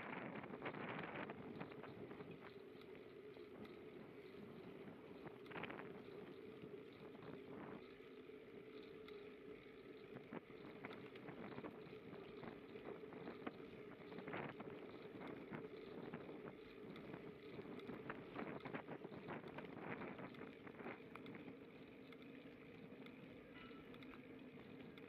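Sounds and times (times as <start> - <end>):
bicycle rolling on grit: 0.0 - 25.0
small ticks and rattles: 0.0 - 25.0.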